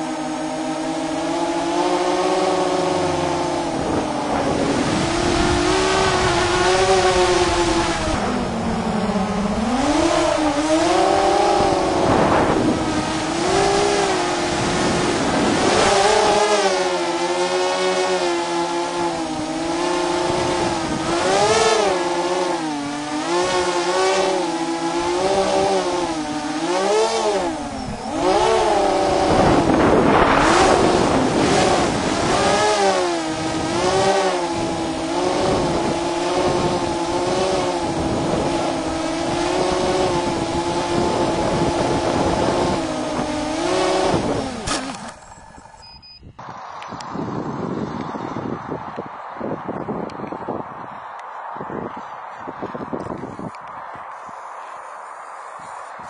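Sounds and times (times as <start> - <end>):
drone motors and propellers whining: 0.0 - 56.0.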